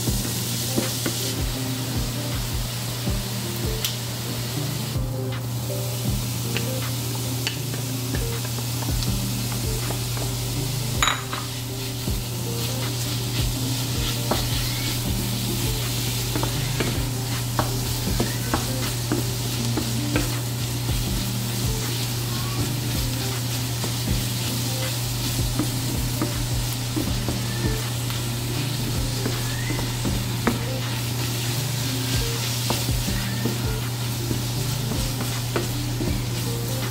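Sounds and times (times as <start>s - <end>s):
meat and onions sizzling in a pan: 0.0s - 36.9s.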